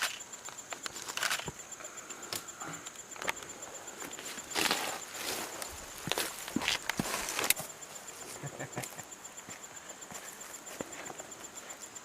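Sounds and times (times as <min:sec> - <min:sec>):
high-pitched insect song: 0:00.0 - 0:12.0.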